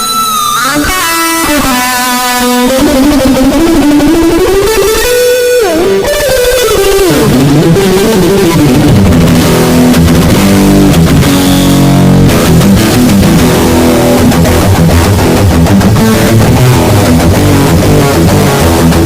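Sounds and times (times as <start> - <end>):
electric guitar playing: 0.0 - 19.0.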